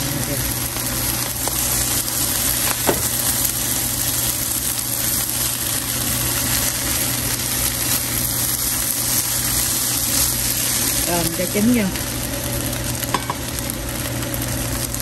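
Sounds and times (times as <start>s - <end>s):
rice frying in a pan: 0.0s - 15.0s.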